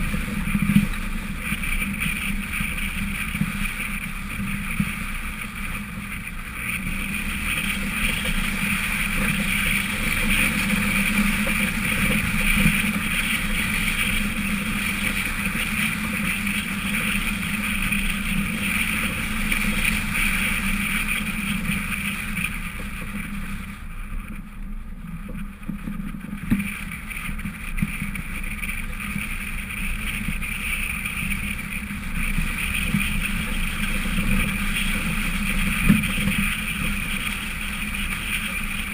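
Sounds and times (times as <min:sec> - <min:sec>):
car engine running: 0:00.0 - 0:38.9
road and tyre noise: 0:00.0 - 0:38.9.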